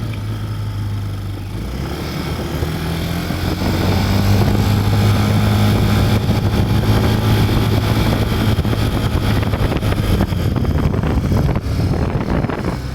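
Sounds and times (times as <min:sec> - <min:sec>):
scooter engine humming: 0:00.0 - 0:12.9.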